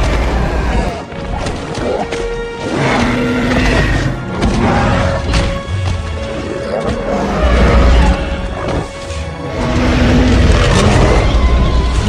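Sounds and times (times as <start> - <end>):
dramatic orchestral score: 0.0 - 12.0.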